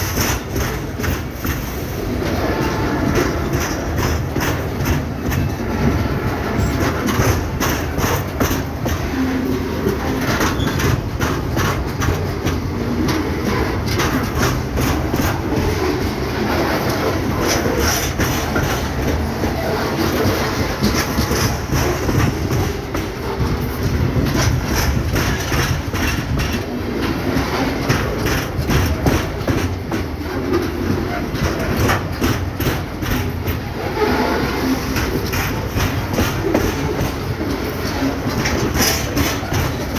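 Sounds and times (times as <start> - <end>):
train wheels clattering on bridge: 0.0 - 39.9.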